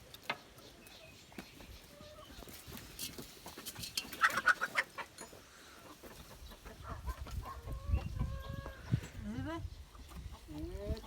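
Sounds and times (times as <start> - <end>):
chickens clucking and squawking: 0.0 - 11.0.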